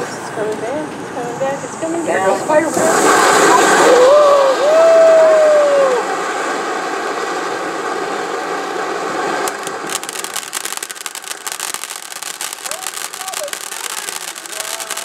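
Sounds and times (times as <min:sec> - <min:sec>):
firework spraying sparks: 0:00.0 - 0:15.0.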